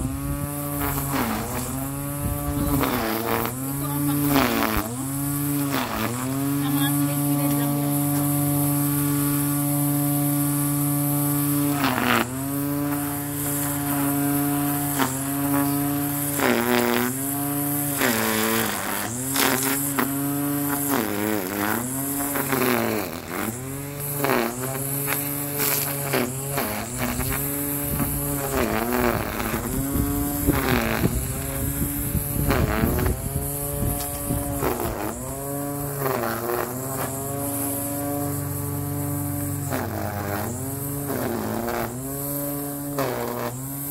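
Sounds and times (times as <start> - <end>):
electric string trimmer whine: 0.0 - 43.9.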